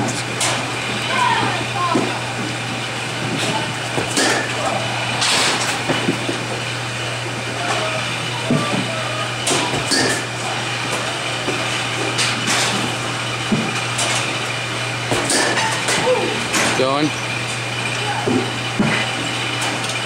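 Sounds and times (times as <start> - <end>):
low hum of machinery: 0.0 - 20.0.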